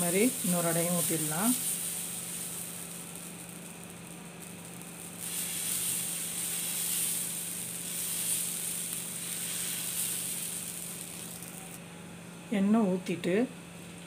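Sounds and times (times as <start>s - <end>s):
batter sizzling on a hot griddle: 0.0s - 11.8s.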